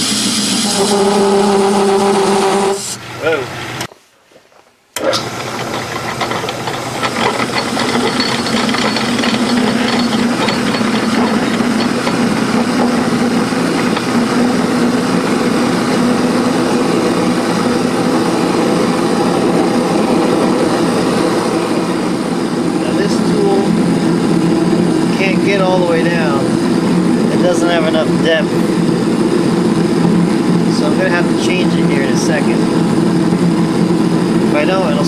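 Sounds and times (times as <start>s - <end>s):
metal lathe cutting: 5.0s - 35.0s.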